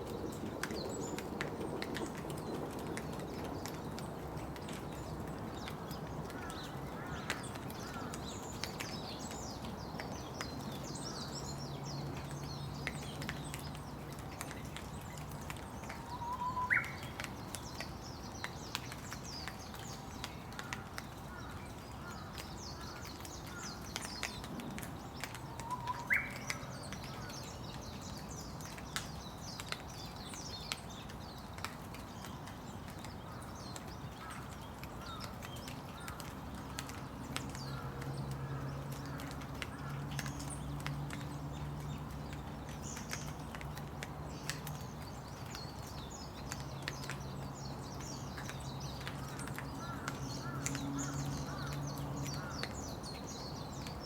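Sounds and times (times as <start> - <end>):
rain falling: 0.0 - 54.0
sharp drips ticking: 0.0 - 54.0
small birds chirping: 0.0 - 54.0.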